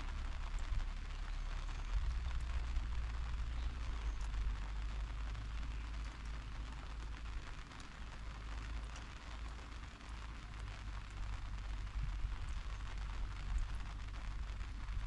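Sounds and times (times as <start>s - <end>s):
faint ticks: 0.0s - 14.8s
low rumble with hiss: 0.0s - 15.0s.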